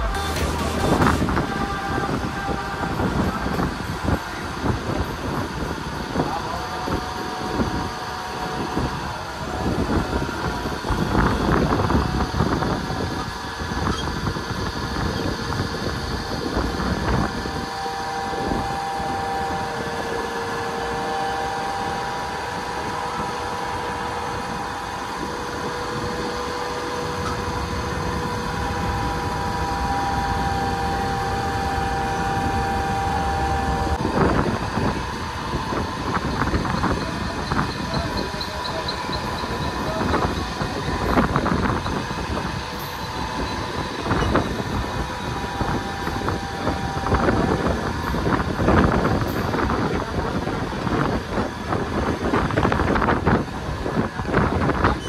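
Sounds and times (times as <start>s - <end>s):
electric train whine: 0.0s - 55.0s
train rattling and clattering: 0.0s - 55.0s
train rumble: 0.0s - 55.0s.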